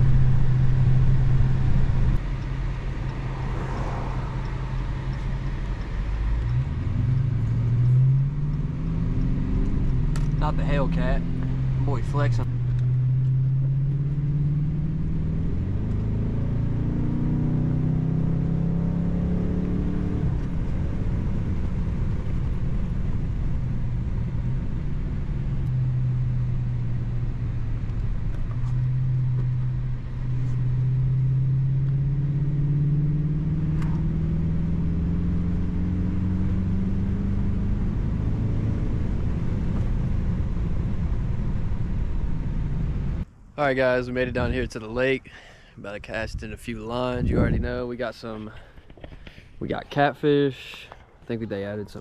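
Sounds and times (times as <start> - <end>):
car engine accelerating: 0.0 - 45.1
tyre and road rumble: 0.0 - 52.0.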